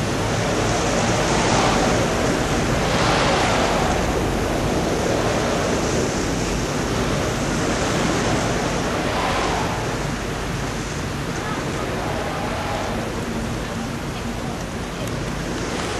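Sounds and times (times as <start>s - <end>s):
surf on beach: 0.0s - 15.9s
wind buffeting microphone: 0.0s - 15.9s
wind rushing: 0.0s - 15.9s.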